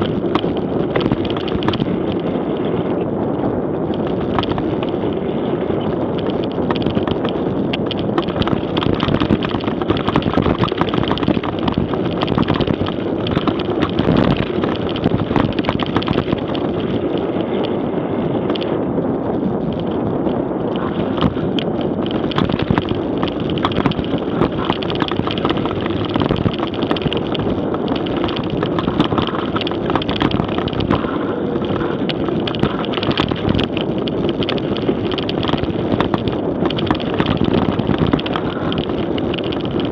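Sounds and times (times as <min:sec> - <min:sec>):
bike rattling and clicking: 0:00.0 - 0:39.9
wind buffeting microphone: 0:00.0 - 0:39.9
tyres rumbling on gravel: 0:03.9 - 0:17.8, 0:19.7 - 0:39.9.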